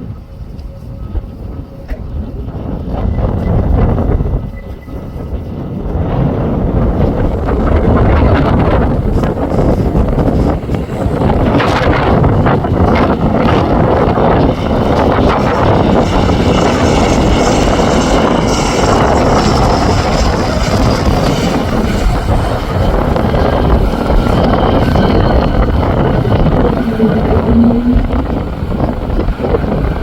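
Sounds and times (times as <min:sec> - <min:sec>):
jet airliner engines whining: 0:00.0 - 0:30.0
wind buffeting microphone: 0:00.0 - 0:30.0.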